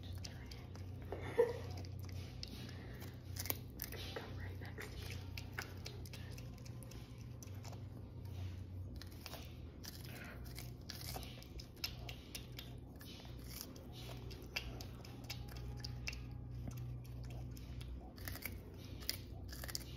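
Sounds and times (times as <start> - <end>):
low hum: 0.0 - 19.9
porcupine gnawing corn: 0.0 - 19.9.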